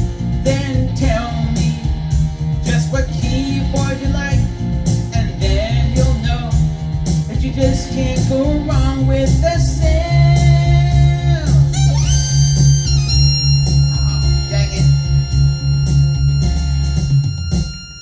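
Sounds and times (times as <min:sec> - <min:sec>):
keyboard lead melody: 0:00.0 - 0:18.0
keyboard rock backing: 0:00.0 - 0:18.0.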